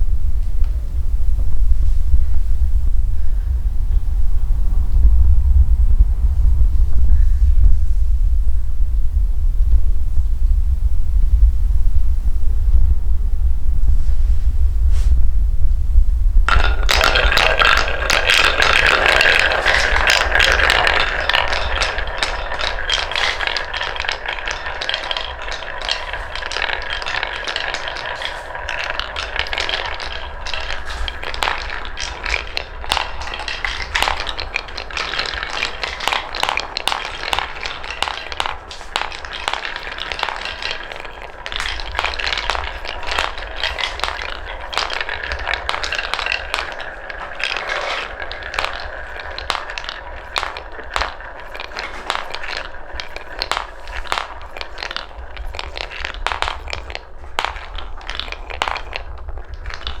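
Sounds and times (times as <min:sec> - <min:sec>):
balls clicking and clacking: 0:00.0 - 1:00.0
balls rolling on wooden track: 0:00.0 - 1:00.0.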